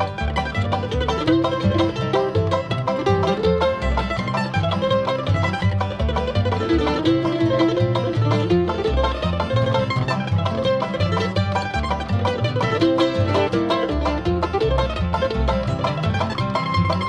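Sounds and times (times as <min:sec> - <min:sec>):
banjo picking: 0:00.0 - 0:17.0
guitar: 0:00.0 - 0:17.0
mandolin: 0:00.0 - 0:17.0
upright bass: 0:00.0 - 0:17.0.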